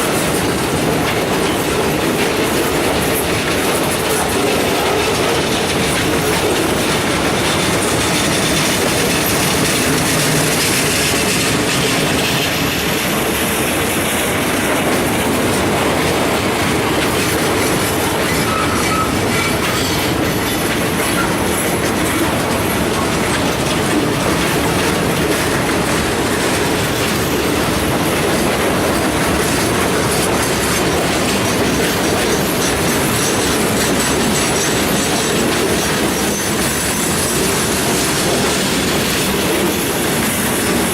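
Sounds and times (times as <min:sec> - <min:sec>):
train wheel squeal: 0:00.0 - 0:15.6, 0:16.5 - 0:40.9
freight train cars rolling past: 0:00.0 - 0:40.9
wheels clacking over rails: 0:00.0 - 0:40.9.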